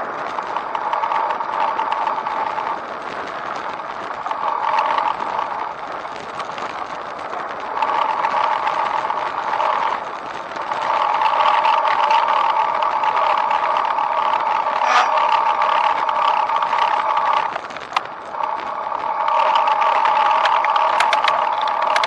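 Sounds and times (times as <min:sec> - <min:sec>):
continuous rattling: 0:00.0 - 0:22.0
vehicle humming on paved path: 0:00.0 - 0:22.0.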